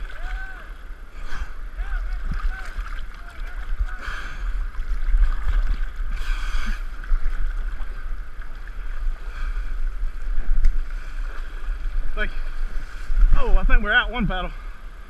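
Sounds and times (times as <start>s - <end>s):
river rushing and splashing: 0.0s - 15.0s
wind buffeting microphone: 0.0s - 15.0s.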